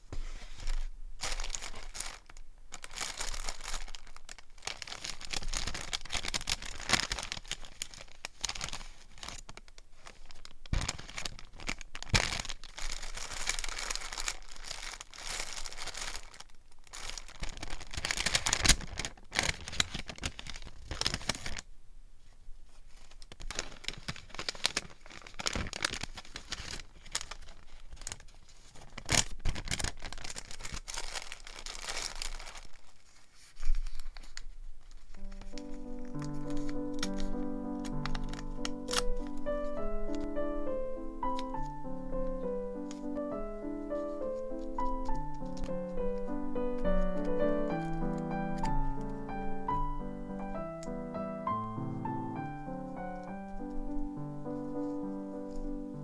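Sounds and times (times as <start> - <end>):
paper crinkling and rustling: 0.0 - 56.0
paper ripping: 0.5 - 21.6, 22.9 - 50.1.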